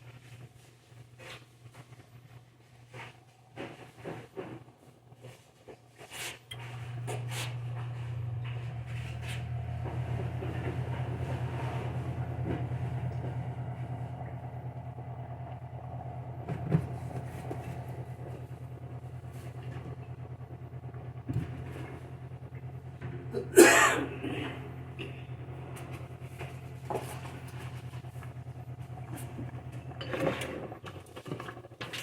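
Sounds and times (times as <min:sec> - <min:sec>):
appliance humming and pulsing: 0:00.0 - 0:32.0.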